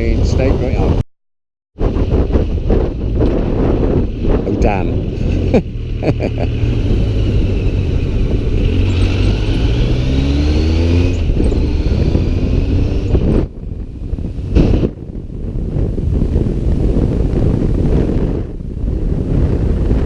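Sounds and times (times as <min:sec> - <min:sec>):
wind noise on microphone: 0:00.0 - 0:01.0, 0:01.8 - 0:20.0
motorcycle engine running: 0:01.9 - 0:20.0.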